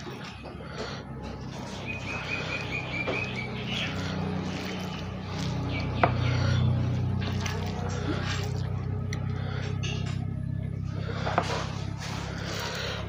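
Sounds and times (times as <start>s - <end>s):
eating sounds: 0.0s - 13.0s
food mixed by hand on plate: 0.0s - 13.0s
low hum: 0.0s - 13.0s.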